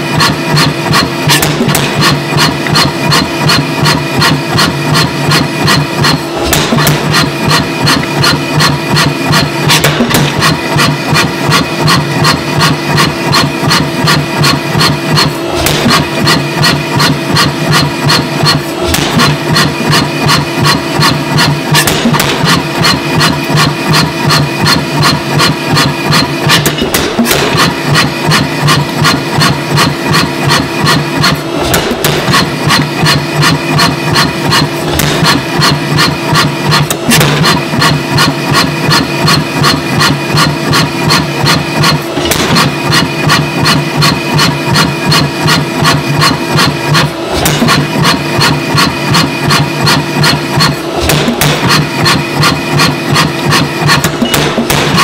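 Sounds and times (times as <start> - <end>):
machine hum: 0.0 - 55.0
power hammer striking hot steel: 0.0 - 55.0.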